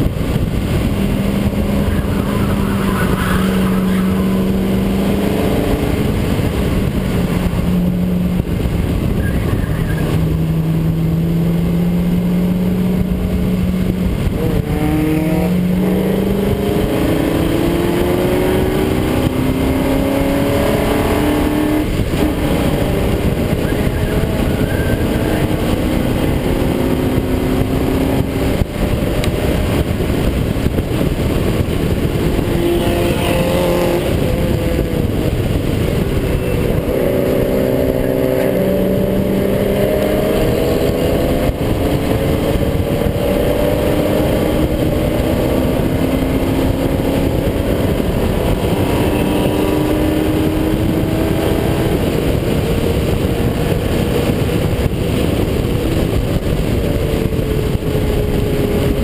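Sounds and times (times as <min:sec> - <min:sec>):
racing car engine revving: 0:00.0 - 0:59.0
wind and road noise: 0:00.0 - 0:59.0.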